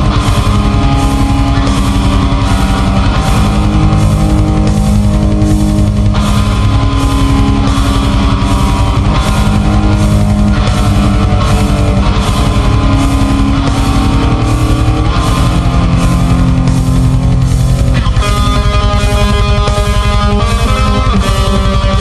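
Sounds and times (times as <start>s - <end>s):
loud rock band music: 0.0s - 22.0s.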